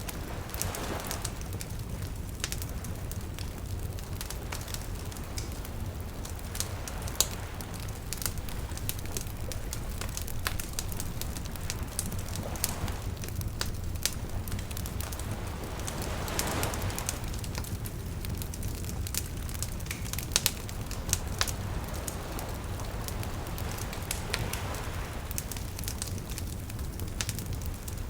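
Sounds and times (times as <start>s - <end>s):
campfire crackles and pops: 0.0s - 28.0s
low rumble of flame: 0.0s - 28.0s
soft hiss: 0.0s - 28.0s.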